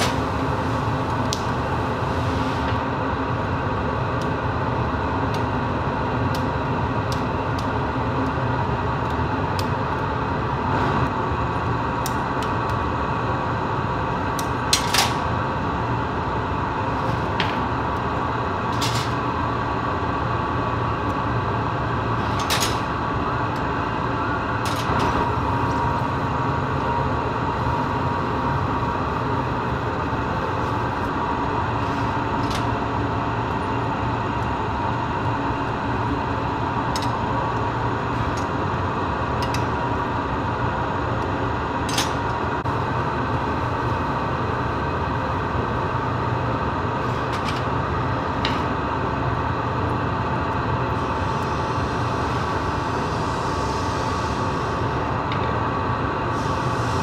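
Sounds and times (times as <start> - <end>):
furnace burners roaring: 0.0 - 57.0.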